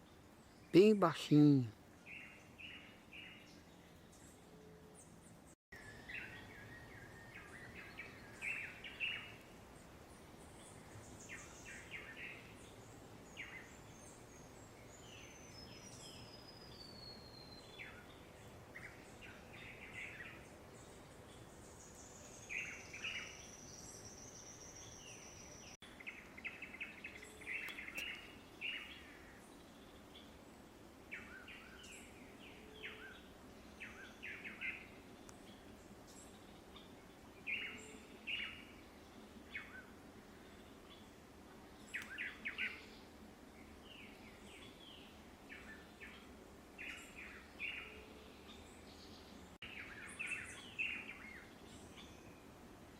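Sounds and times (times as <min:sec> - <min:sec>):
forest birds chirping: 0:00.0 - 0:52.9.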